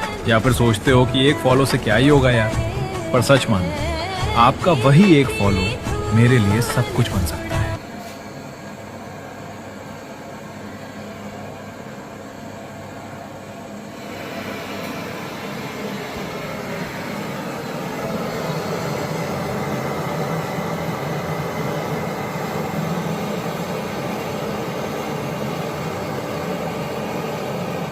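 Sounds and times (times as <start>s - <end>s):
mechanical drone with hum and hiss: 0.0s - 27.9s.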